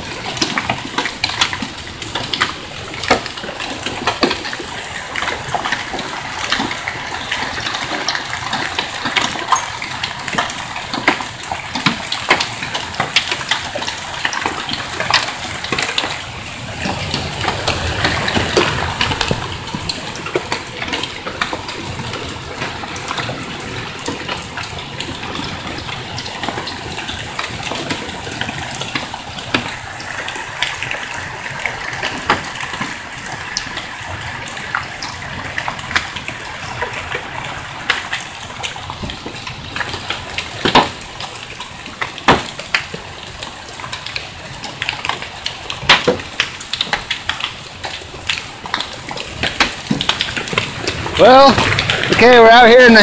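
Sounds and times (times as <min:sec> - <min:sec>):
hailstones striking: 0:00.0 - 0:53.0
rain hissing: 0:00.0 - 0:53.0.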